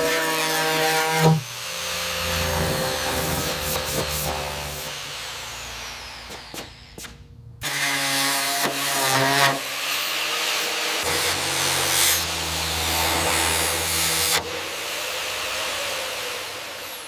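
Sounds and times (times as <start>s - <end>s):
power tool motor hum: 0.0s - 17.0s.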